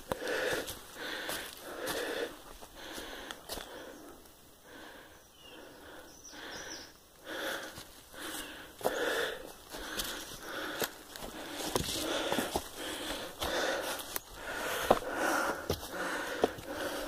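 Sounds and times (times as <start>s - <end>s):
person breathing hard: 0.0s - 17.0s.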